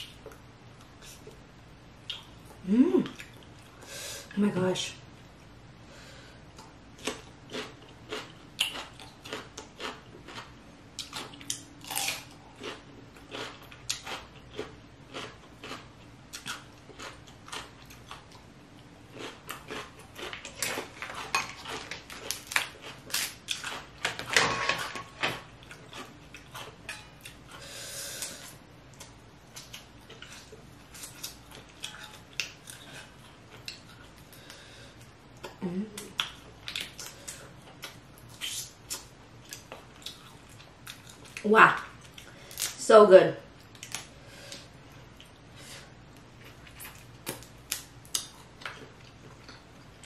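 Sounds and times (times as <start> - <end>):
chewing and crunching: 6.5 - 42.8, 46.1 - 50.0.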